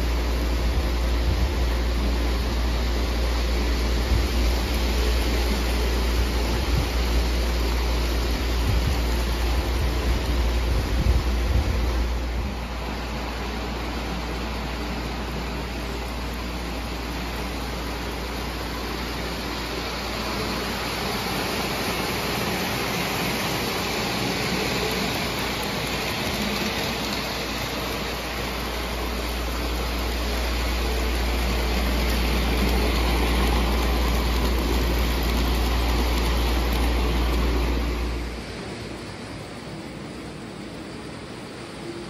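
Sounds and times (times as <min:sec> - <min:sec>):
model train rumbling on metal track: 0:00.0 - 0:42.0.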